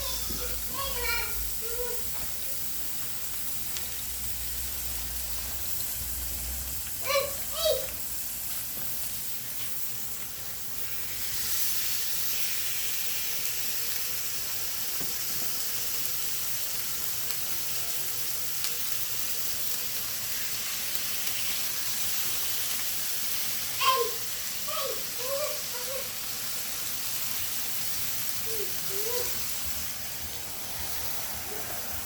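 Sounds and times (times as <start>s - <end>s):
chicken sizzling on a grill: 0.0s - 32.0s.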